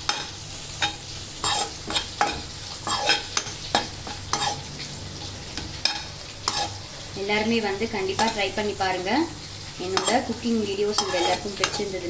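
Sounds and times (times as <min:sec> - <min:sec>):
steel spoon scraping a pan: 0:00.0 - 0:08.7, 0:09.4 - 0:12.0
food sizzling: 0:00.0 - 0:12.0.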